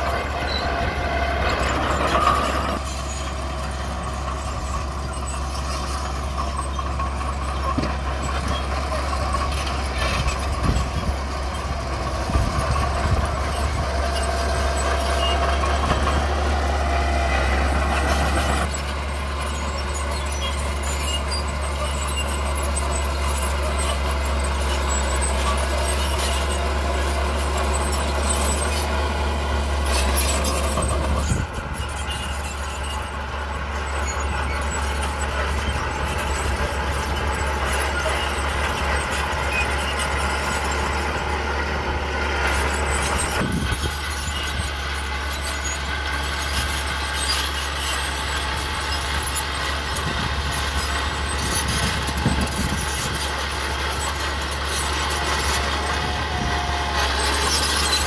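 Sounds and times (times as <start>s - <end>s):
bulldozer engine running: 0.0s - 58.0s.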